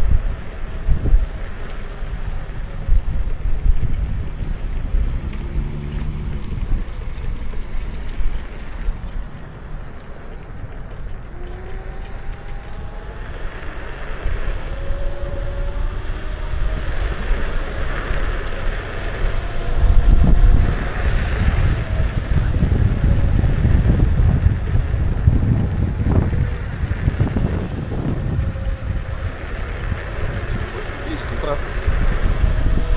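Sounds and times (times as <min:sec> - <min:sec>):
faint whines gliding in pitch: 0:00.0 - 0:32.9
wind buffeting microphone: 0:00.0 - 0:32.9.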